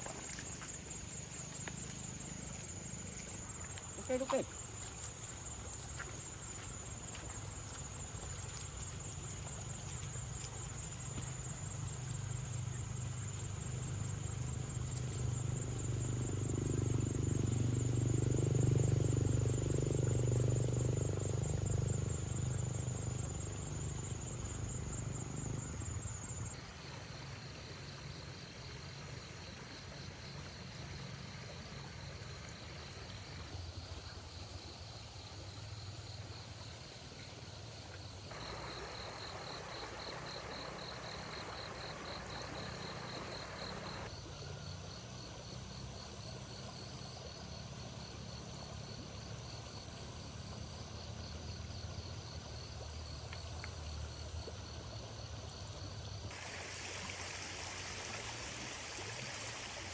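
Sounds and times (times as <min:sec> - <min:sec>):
insects trilling: 0:00.0 - 0:26.6, 0:32.4 - 0:59.9.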